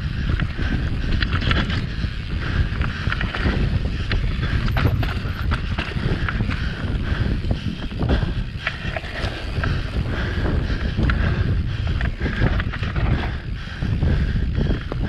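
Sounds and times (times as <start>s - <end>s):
bike rattling: 0.0s - 15.0s
wind buffeting microphone: 0.0s - 15.0s
tyres running over dirt and stones: 0.2s - 7.4s, 8.3s - 13.5s.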